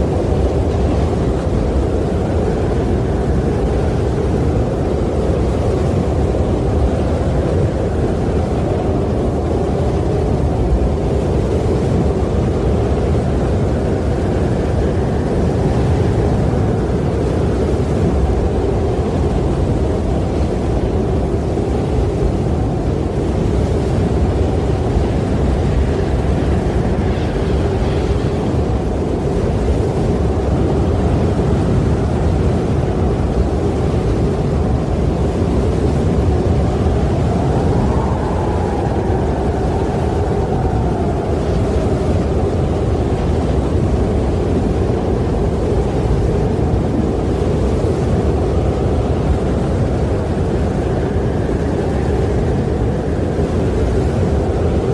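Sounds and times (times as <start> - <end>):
faint wind whistling: 0.0 - 54.9
strong wind rushing: 0.0 - 54.9.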